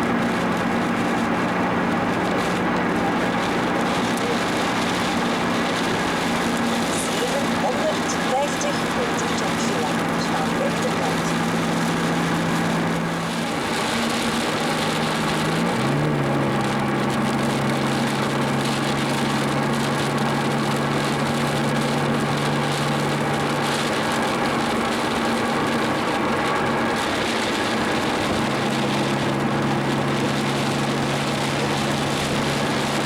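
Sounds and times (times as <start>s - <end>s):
car engine running: 0.0s - 33.0s
road noise: 0.0s - 33.0s.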